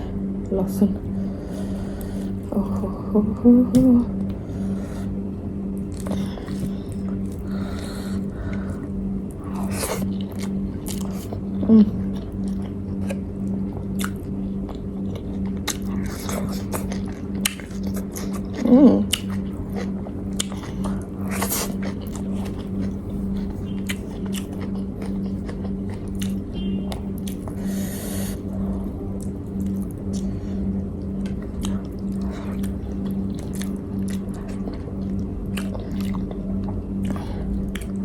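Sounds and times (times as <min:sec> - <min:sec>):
low electrical hum: 0:00.0 - 0:38.0
chewing and biting food: 0:05.8 - 0:38.0.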